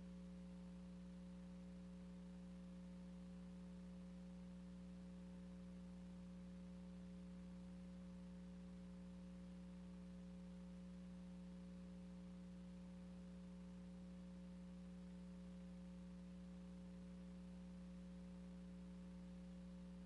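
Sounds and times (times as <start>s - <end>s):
faint hum with hiss: 0.0s - 20.0s.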